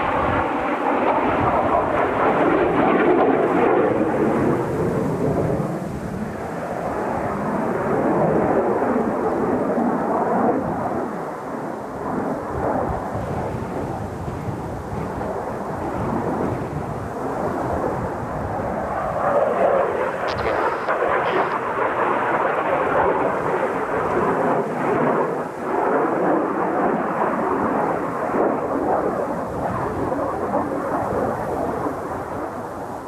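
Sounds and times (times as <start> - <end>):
jet aircraft flying past: 0.0 - 33.0.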